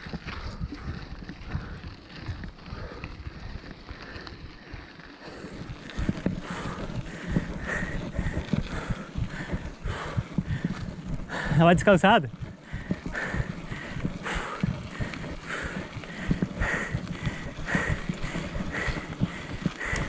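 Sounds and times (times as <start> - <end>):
bicycle tyres rumbling: 0.0 - 20.0
bike rattling: 0.0 - 20.0
wind buffeting microphone: 0.0 - 20.0.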